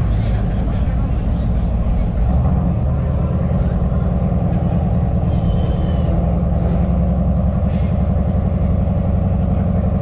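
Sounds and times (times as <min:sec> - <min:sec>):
car engine and exhaust drone: 0:00.0 - 0:10.0.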